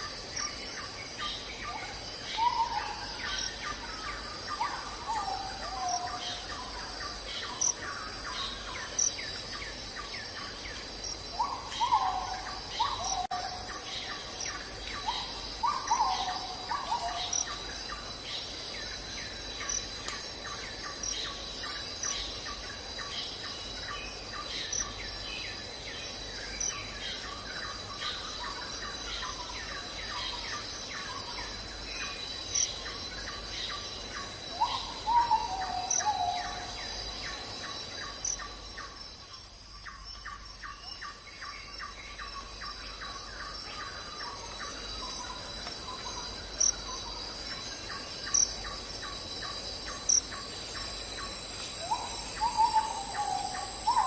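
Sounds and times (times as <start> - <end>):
insect drone: 0.0 - 54.0.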